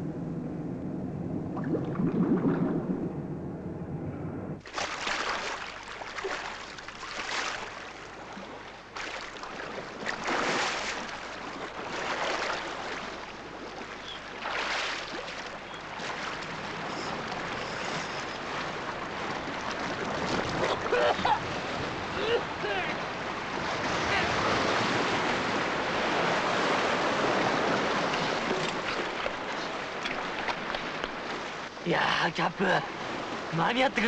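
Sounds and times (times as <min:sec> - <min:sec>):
sea waves washing in: 0:00.0 - 0:34.0.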